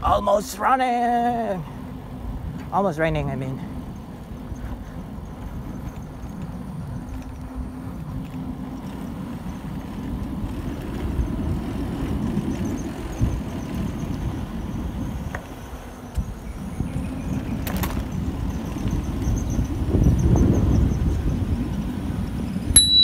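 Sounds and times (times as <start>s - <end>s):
wind and road rumble: 0.0s - 23.0s.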